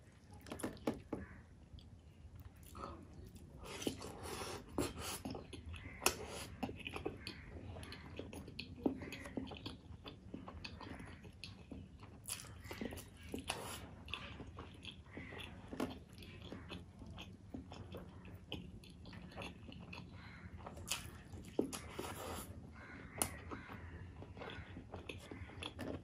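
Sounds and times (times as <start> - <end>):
close chewing with wet smacking: 0.0 - 26.0.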